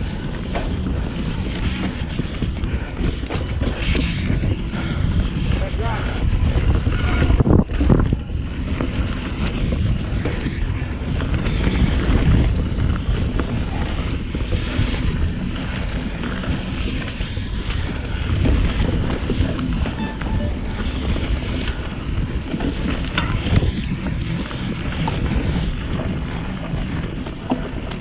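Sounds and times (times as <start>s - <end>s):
bike clattering over rough ground: 0.0s - 20.0s, 20.6s - 28.0s
wind rushing over microphone: 0.0s - 28.0s.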